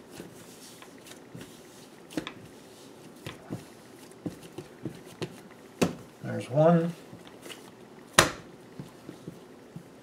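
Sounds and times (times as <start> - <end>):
hands rubbing dough: 0.0 - 10.0.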